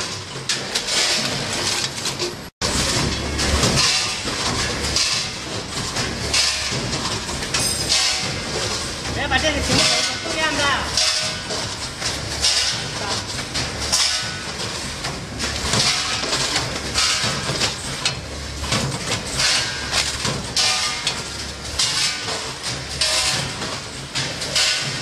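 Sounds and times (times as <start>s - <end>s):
packaging machine clacks: 0.0s - 25.0s.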